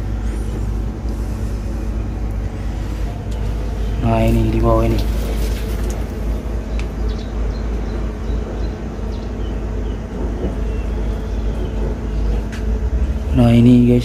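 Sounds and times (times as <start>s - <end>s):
diesel truck engine idling: 0.0s - 14.0s
faint steady hum: 0.0s - 14.0s.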